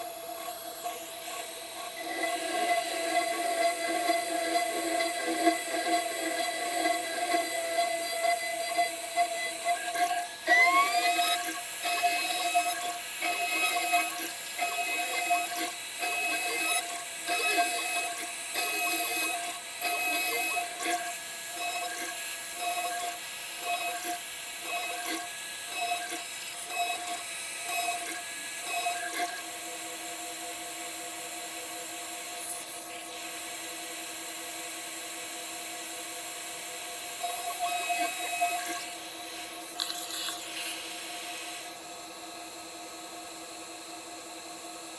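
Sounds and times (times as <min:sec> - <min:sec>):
cutter machining metal: 0:00.0 - 0:44.9
router spindle whining: 0:00.0 - 0:44.9.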